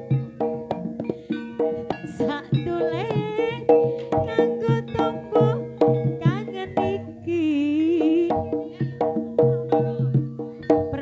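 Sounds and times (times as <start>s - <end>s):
gamelan music: 0.0s - 11.0s
hand drums: 0.0s - 11.0s
struck bronze instruments: 0.0s - 11.0s
wavering held melody: 0.0s - 11.0s.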